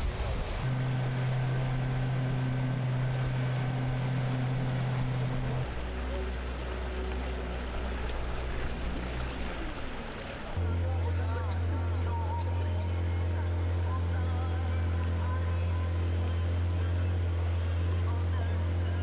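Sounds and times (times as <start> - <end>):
motorboat engine running: 0.0 - 19.0
rushing water: 0.0 - 19.0.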